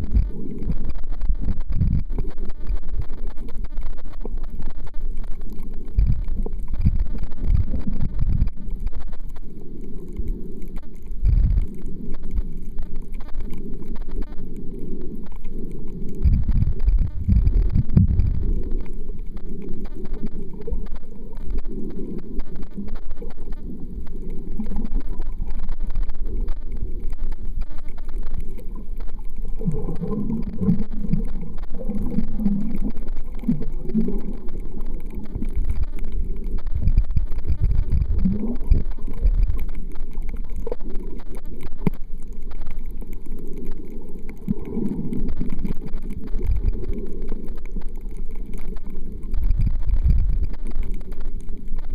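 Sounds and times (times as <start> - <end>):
muffled underwater rumble: 0.0 - 51.9.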